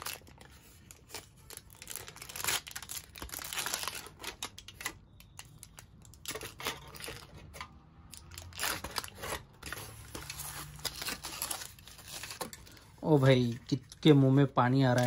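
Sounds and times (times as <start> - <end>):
foil wrapper crinkling and tearing: 0.0 - 14.2.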